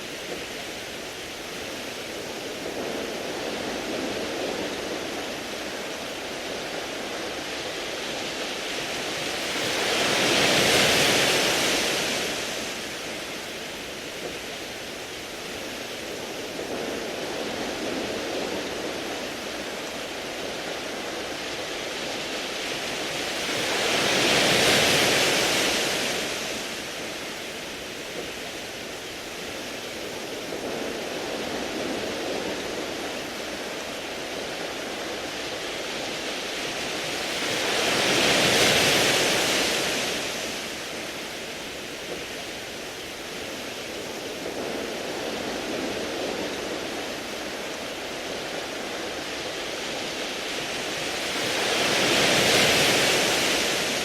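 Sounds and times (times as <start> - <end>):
waves washing over pebbles: 0.0 - 54.0.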